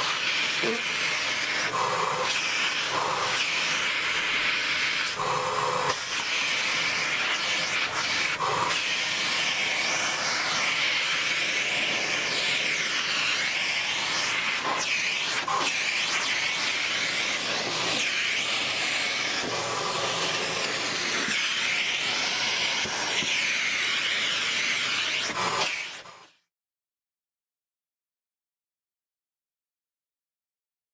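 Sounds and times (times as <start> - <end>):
vacuum cleaner running: 0.0 - 26.4.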